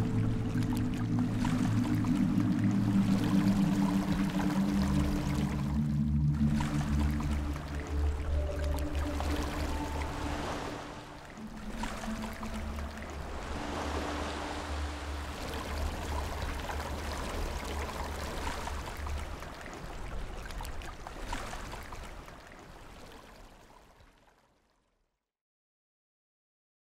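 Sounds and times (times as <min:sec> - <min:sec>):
water rushing with low rumble: 0:00.0 - 0:24.6.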